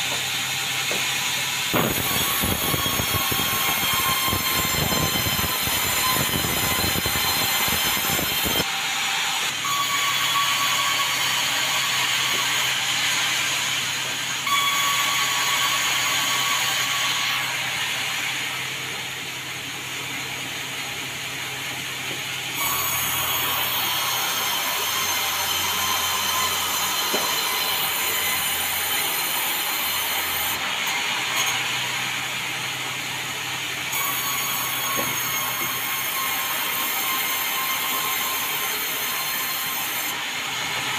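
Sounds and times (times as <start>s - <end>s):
saw cutting timber: 0.0s - 40.9s.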